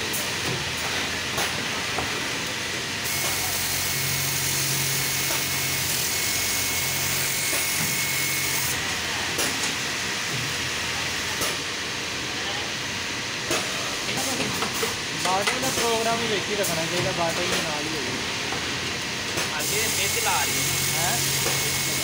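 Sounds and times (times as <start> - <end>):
background machinery noise: 0.0 - 22.0.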